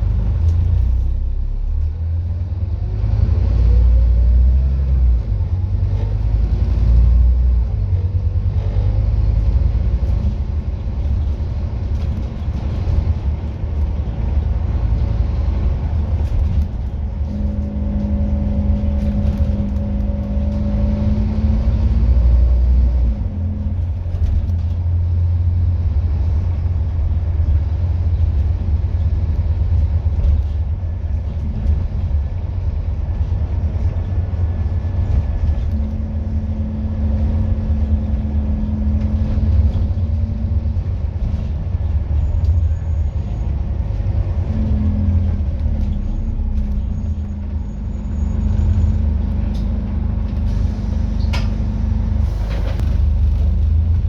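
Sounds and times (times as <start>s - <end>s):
bus engine rumble: 0.0s - 54.0s.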